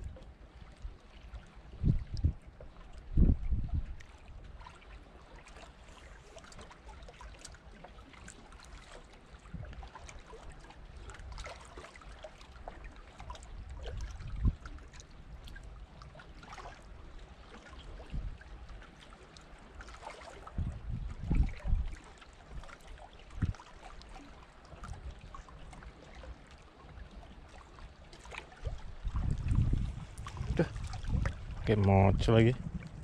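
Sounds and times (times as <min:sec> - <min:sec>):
water lapping and trickling: 0:00.0 - 0:33.0.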